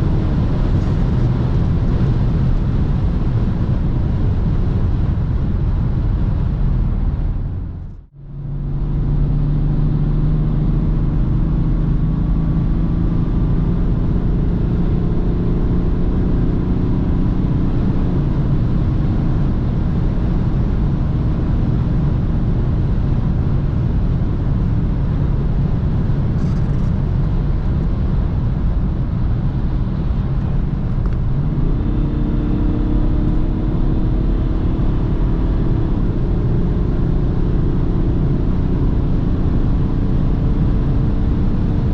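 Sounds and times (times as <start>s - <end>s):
road noise: 0.0s - 41.9s
wind noise: 0.0s - 41.9s.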